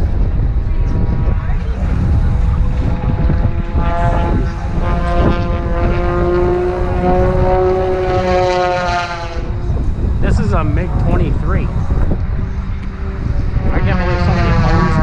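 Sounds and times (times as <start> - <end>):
propeller airplane engine droning: 0.0 - 15.0
wind buffeting microphone: 0.0 - 15.0.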